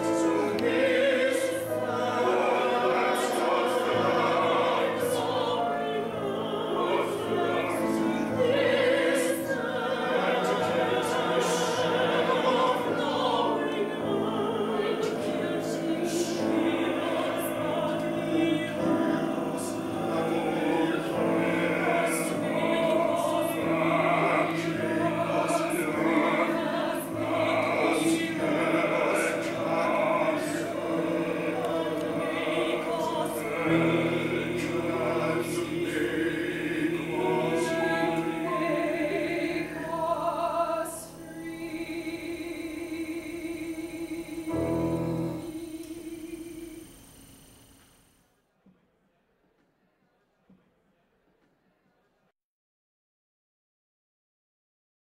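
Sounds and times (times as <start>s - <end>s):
piano accompaniment: 0.0s - 46.0s
operatic voices singing together: 0.0s - 47.4s.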